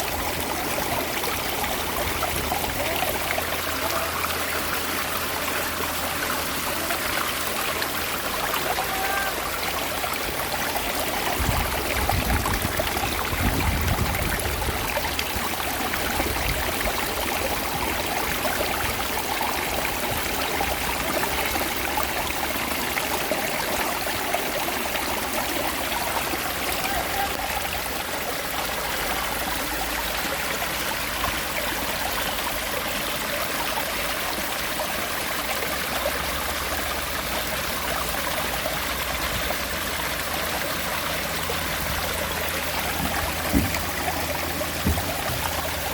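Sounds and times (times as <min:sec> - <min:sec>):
stream running over rocks: 0:00.0 - 0:45.9.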